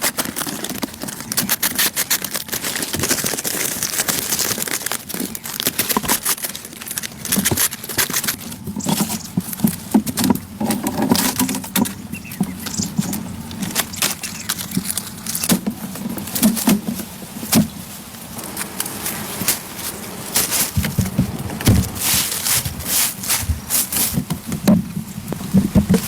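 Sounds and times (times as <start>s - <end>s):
rustling: 0.0s - 26.0s.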